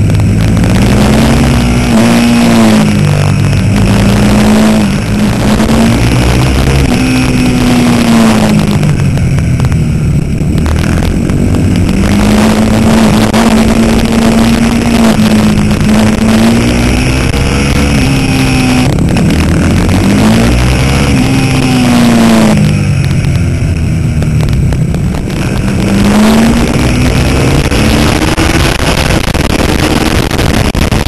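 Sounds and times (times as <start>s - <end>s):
motorcycle engine revving: 0.0s - 31.0s
wind and road noise: 0.0s - 31.0s.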